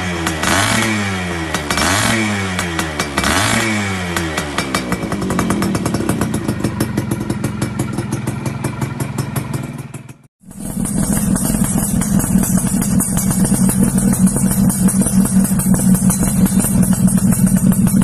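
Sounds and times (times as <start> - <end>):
two-stroke motorcycle engines pulsing: 0.0 - 18.0.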